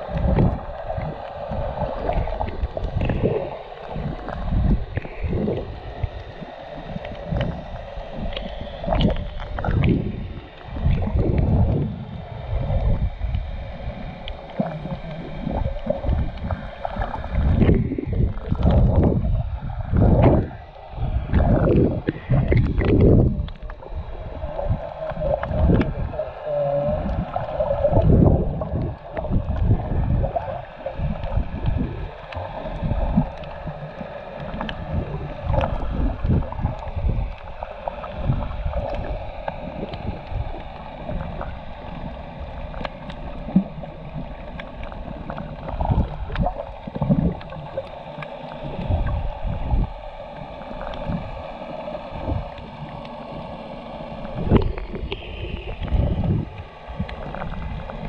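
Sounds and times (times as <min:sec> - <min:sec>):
muffled underwater water sloshing: 0:00.0 - 0:58.0.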